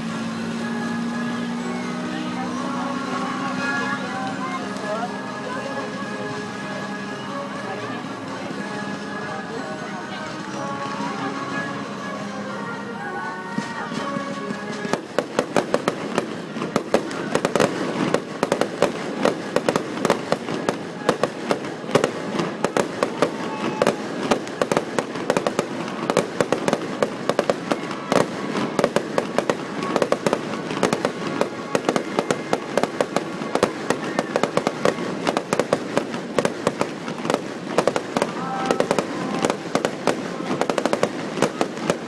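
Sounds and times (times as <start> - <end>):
fireworks bursting and crackling: 0.0 - 42.0.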